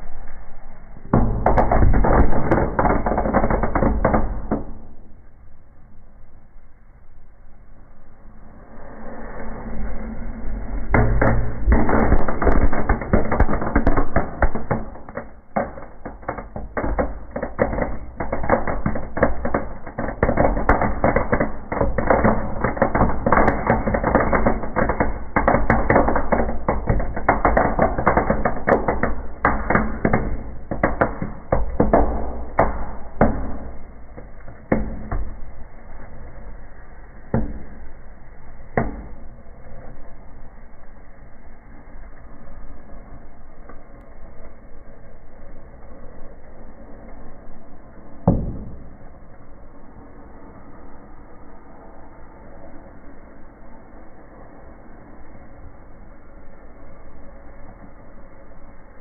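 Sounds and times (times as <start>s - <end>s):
fire crackling and popping: 0.0s - 5.4s, 8.8s - 51.1s
low rumble: 0.0s - 59.0s.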